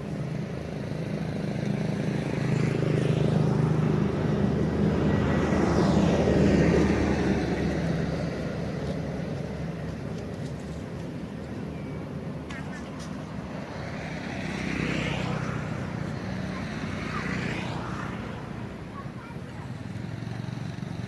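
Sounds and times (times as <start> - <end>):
motor vehicle passing by: 0.0 - 21.0.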